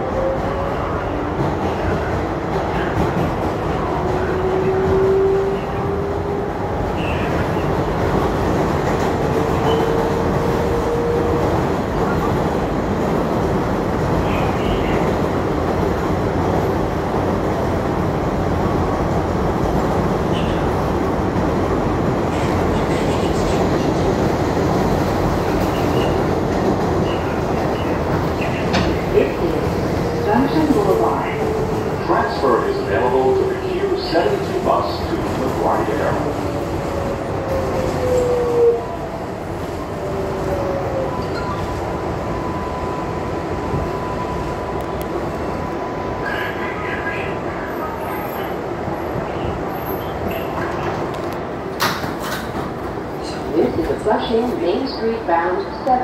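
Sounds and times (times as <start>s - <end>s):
subway wheels rumbling on rails: 0.0s - 56.0s.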